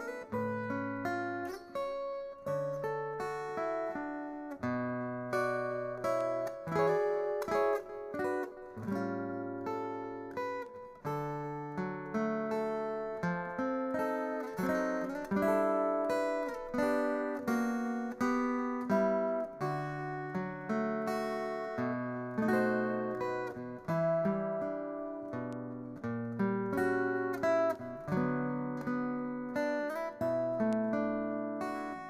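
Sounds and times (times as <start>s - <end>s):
fingerstyle acoustic guitar: 0.0s - 32.0s.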